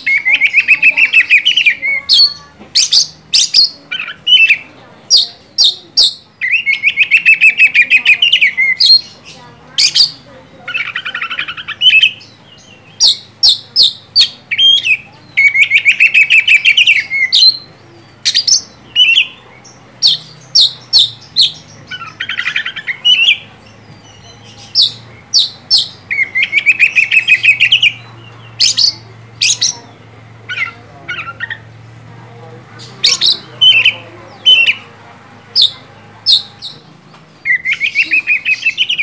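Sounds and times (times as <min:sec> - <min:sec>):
bird whistled song: 0:00.0 - 0:09.2, 0:09.8 - 0:29.9, 0:33.0 - 0:34.8, 0:35.5 - 0:39.0
bird chattering trill: 0:00.0 - 0:32.0, 0:32.7 - 0:39.0.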